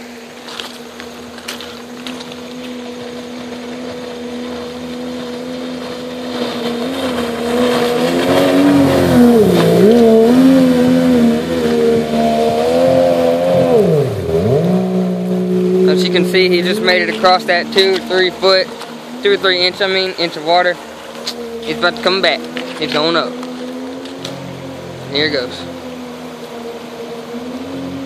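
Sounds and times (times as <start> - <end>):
outboard boat engine: 0.0 - 28.0.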